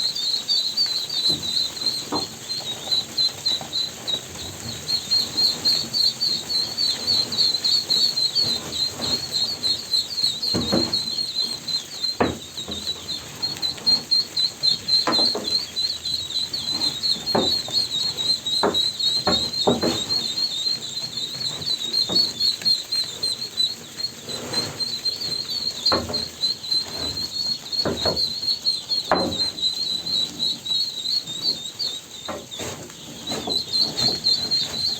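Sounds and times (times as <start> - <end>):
ducklings peeping: 0.0 - 34.9
scattered knocks: 0.8 - 23.4, 24.5 - 30.7.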